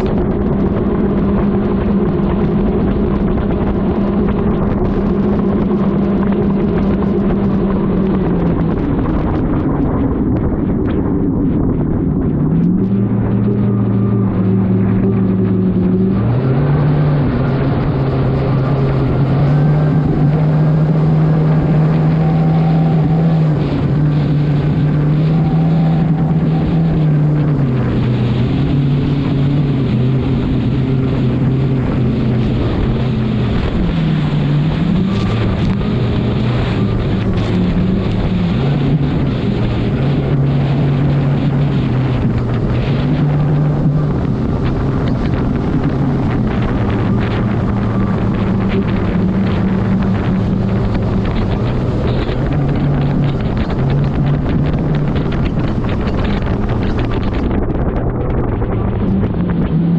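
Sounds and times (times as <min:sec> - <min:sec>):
outboard engine running hard: 0:00.0 - 0:59.9
wind buffeting microphone: 0:00.0 - 0:59.9.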